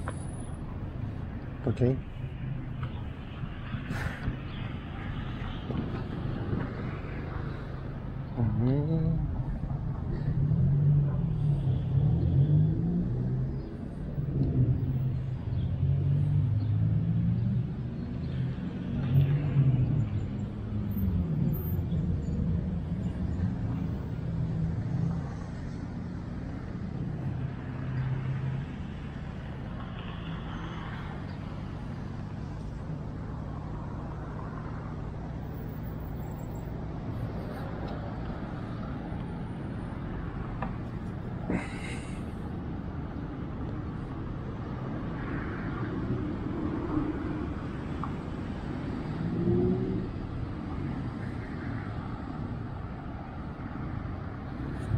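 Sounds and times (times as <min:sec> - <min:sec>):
road traffic rumble: 0:00.0 - 0:54.9.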